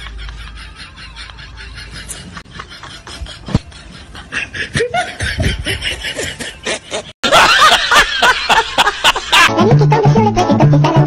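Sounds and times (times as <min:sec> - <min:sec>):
loud laughter: 0:00.0 - 0:09.5.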